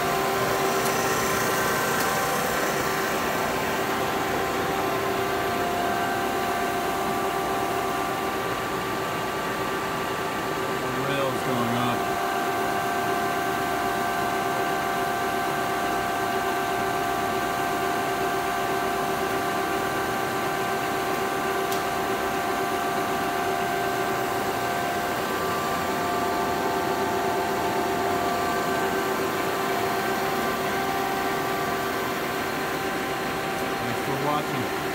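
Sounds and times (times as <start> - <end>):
lathe running with whine: 0.0 - 34.9.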